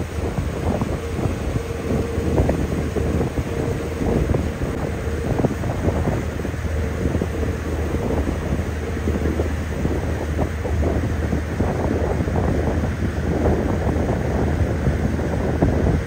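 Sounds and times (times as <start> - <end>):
boat engine hum: 0.0 - 16.0
wind buffeting microphone: 0.0 - 16.0.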